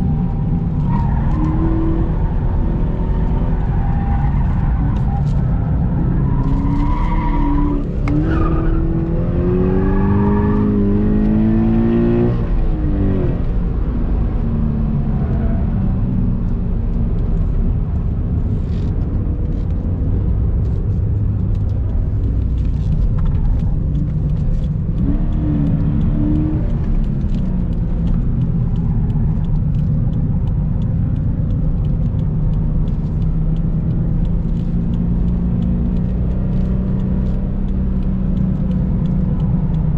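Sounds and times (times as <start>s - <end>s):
car engine revving: 0.0s - 17.2s, 21.4s - 39.9s
road and tyre rumble: 0.0s - 39.9s.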